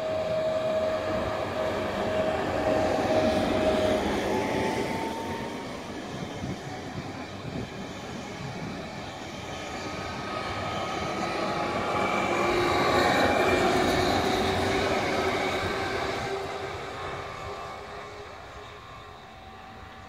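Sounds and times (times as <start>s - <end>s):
train passing: 0.0s - 20.0s
train wheels whining on rails: 0.0s - 20.0s.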